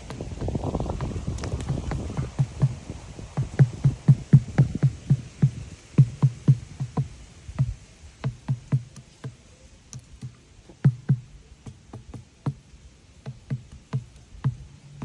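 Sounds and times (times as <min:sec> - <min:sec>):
soft knocks: 0:00.0 - 0:15.0.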